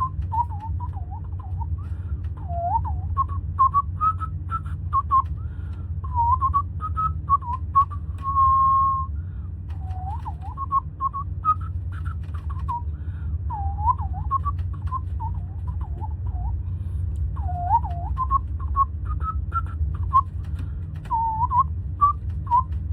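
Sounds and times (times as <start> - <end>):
person whistling a tune: 0.0 - 9.1, 9.8 - 12.9, 13.5 - 16.5, 17.4 - 20.4, 21.0 - 22.8
steady low hum: 0.0 - 22.9.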